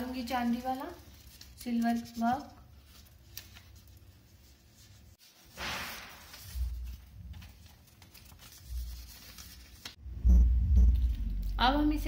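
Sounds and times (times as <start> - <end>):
paper and plastic rustling: 0.0 - 10.0.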